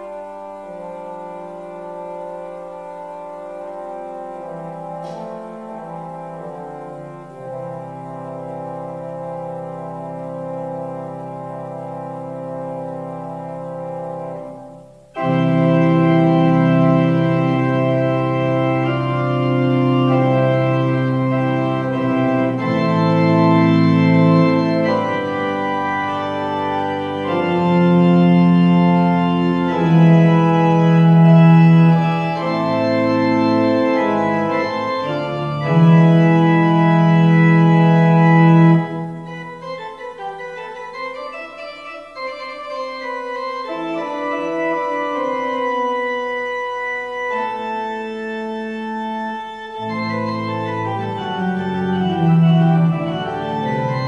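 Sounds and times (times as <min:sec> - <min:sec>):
organ playing slow chords: 0:00.0 - 0:54.0.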